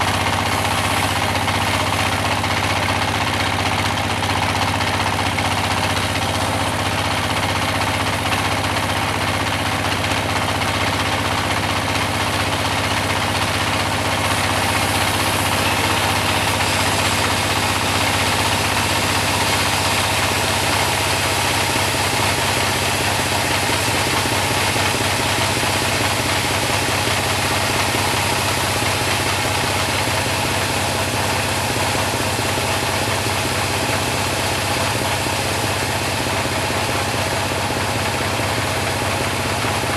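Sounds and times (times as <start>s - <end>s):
band saw sawing a log: 0.0s - 39.9s.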